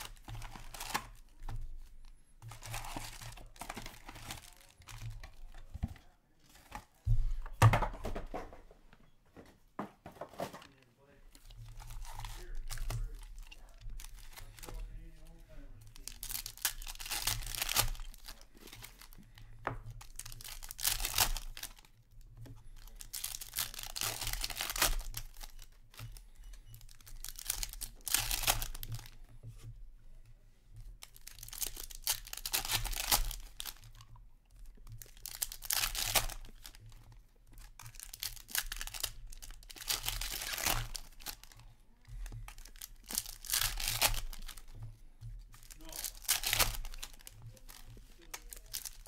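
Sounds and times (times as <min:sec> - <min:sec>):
card wrappers tearing and crinkling: 0:00.0 - 0:05.7, 0:10.4 - 0:22.0, 0:22.6 - 0:29.2, 0:31.0 - 0:34.1, 0:34.8 - 0:49.0.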